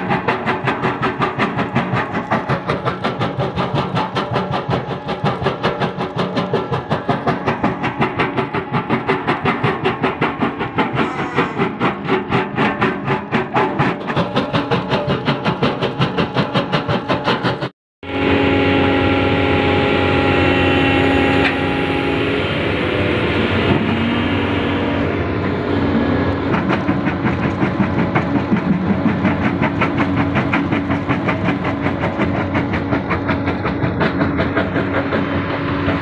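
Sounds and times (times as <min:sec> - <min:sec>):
excavator engine and hydraulics hum: 0:00.0 - 0:36.0.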